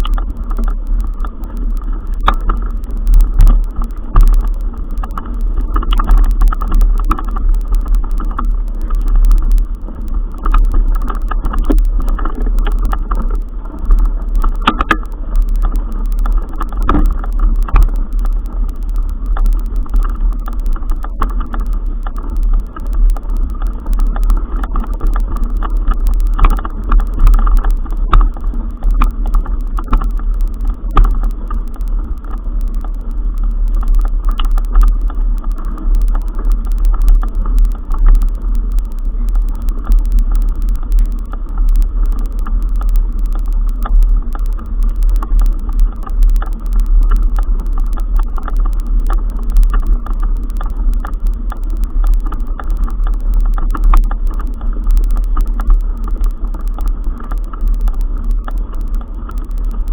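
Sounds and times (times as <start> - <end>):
wind and travel rumble: 0.0 - 59.9.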